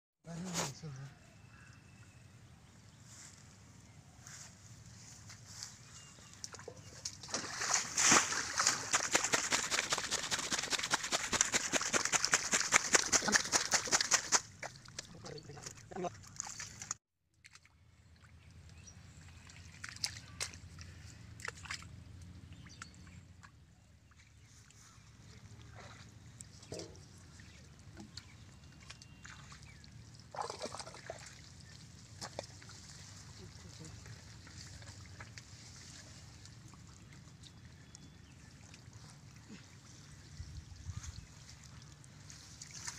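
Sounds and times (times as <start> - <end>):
muddy water splashing: 5.5 - 42.9.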